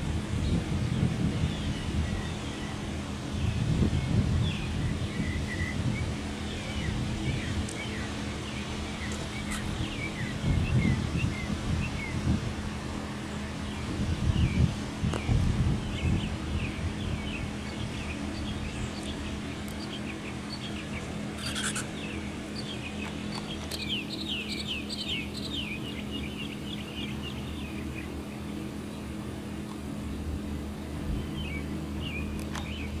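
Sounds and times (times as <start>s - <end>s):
small birds chirping: 0.0s - 12.4s, 13.1s - 33.0s
low wind rumble: 0.0s - 33.0s
steady low hum: 0.0s - 33.0s.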